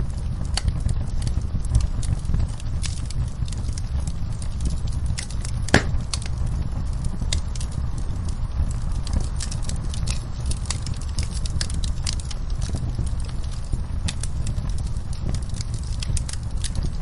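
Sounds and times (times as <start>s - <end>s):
low rumble of burning fire: 0.0s - 17.0s
wood fire crackling and popping: 0.0s - 17.0s.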